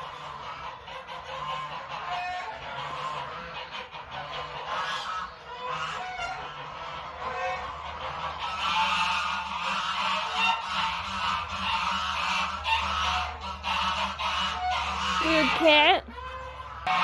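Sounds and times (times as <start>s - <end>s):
poultry honking: 0.0s - 17.0s.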